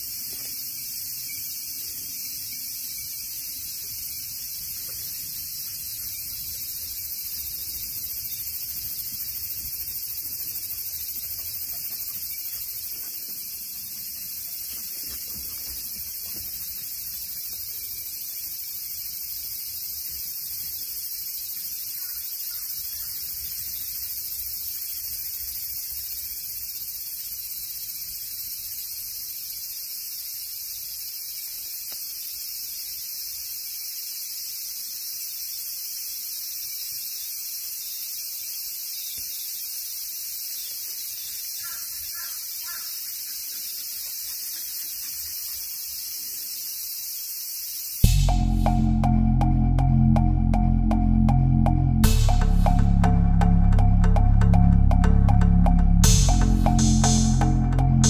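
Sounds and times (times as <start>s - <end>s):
cicada chorus: 0.0s - 58.0s.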